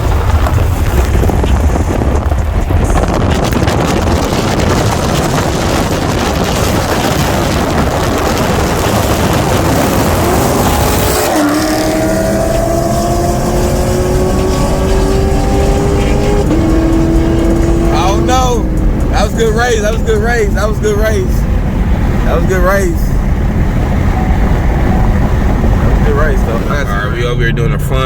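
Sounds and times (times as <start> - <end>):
car engine roar: 0.0 - 28.0
road noise: 0.0 - 28.0
wind noise: 0.0 - 28.0.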